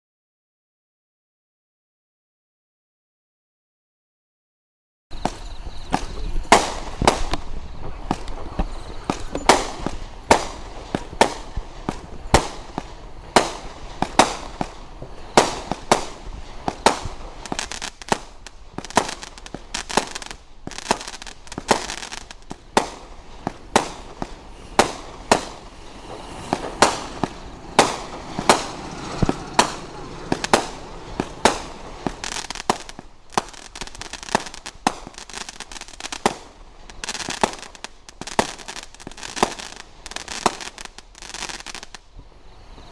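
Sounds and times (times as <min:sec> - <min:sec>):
crackling hiss: 0:05.1 - 0:42.9
firework shots bursting: 0:05.2 - 0:42.0.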